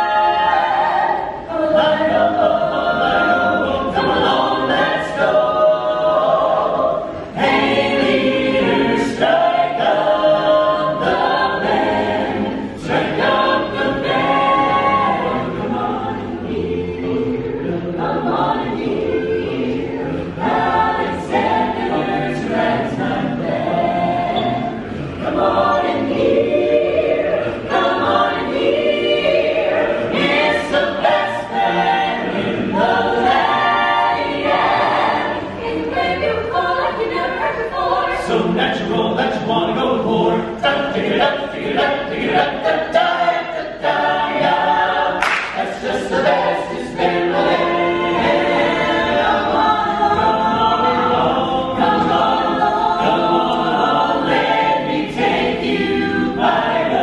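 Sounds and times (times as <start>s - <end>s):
a cappella choir singing: 0.0s - 57.0s.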